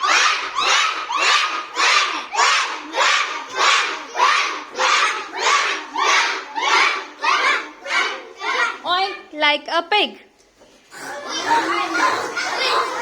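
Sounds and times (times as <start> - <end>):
children quacking like a duck: 0.0 - 8.8, 10.9 - 13.0.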